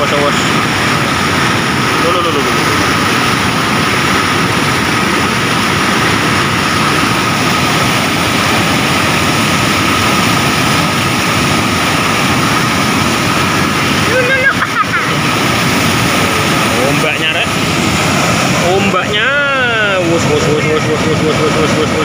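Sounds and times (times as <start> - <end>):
floodwater roaring over weir: 0.0 - 22.0.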